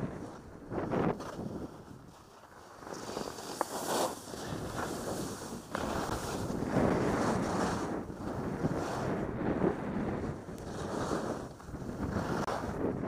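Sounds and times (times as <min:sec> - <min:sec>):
skis scraping on snow: 0:00.0 - 0:13.0
wind on microphone: 0:00.0 - 0:13.0.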